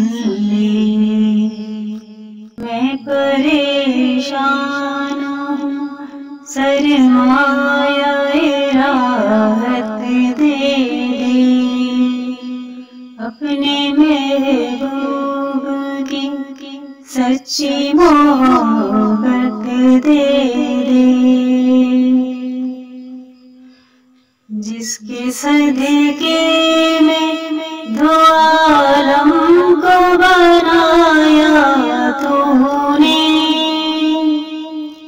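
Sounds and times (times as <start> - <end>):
person singing ornamented melody: 0.0 - 22.9, 24.5 - 35.0.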